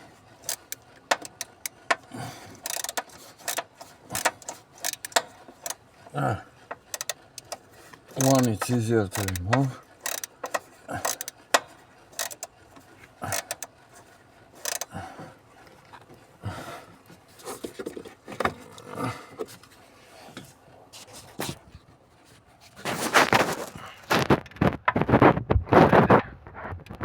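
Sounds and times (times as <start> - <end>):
hand tools clicking and scraping: 0.0 - 25.2.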